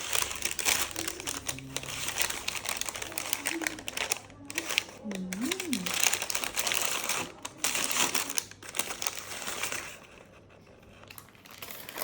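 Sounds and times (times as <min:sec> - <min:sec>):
rustling and crinkling handling: 0:00.0 - 0:12.0.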